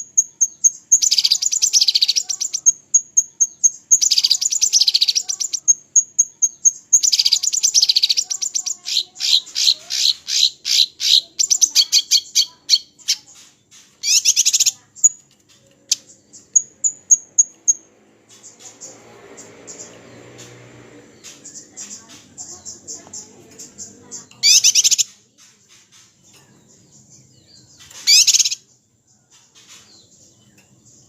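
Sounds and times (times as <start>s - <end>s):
songbird trilling and chattering: 0.0s - 31.0s.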